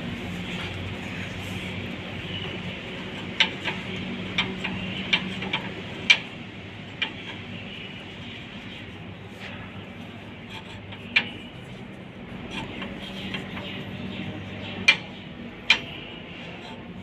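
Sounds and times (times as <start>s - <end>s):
steady machinery hum: 0.0s - 17.0s.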